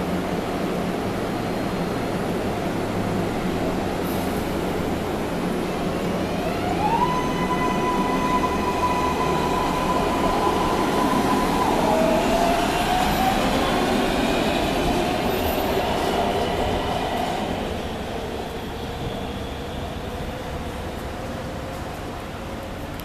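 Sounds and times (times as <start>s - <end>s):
train accelerating away: 0.0s - 23.0s
wheel and rail rumble: 0.0s - 23.0s
train propulsion whine: 0.7s - 22.4s.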